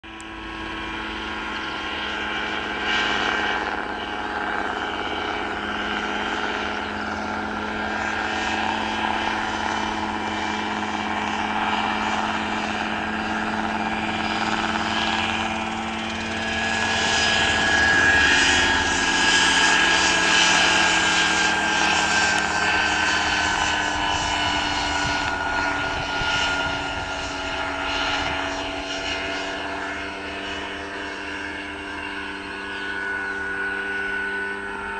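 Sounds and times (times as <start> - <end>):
helicopter engine running: 0.0 - 34.9.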